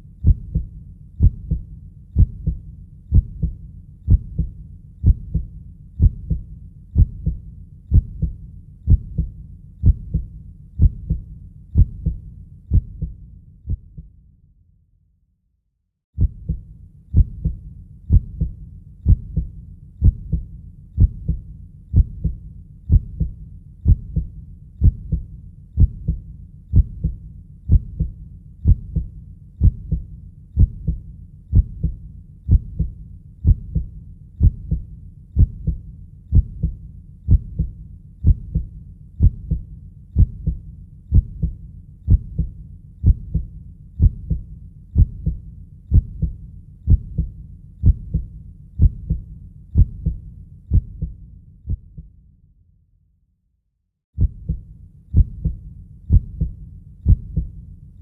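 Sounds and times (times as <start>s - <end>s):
heartbeat thumping: 0.2s - 14.1s, 16.2s - 52.1s, 54.2s - 57.6s.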